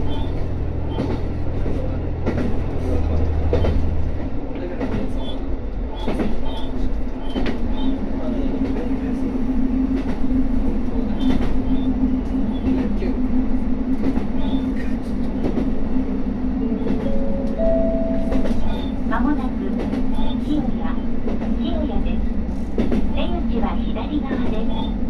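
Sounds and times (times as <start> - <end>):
train drone from inside: 0.0 - 25.0.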